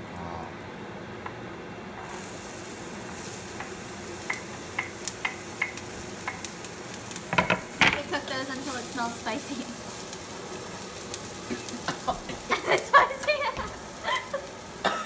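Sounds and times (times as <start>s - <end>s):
peppers sizzling in oil: 2.0s - 15.0s.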